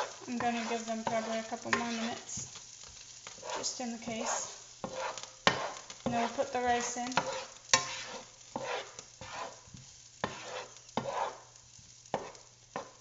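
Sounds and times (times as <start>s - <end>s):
utensil scraping against pan: 0.0s - 11.5s, 12.1s - 13.0s
onions sauteing in pan: 0.0s - 13.0s.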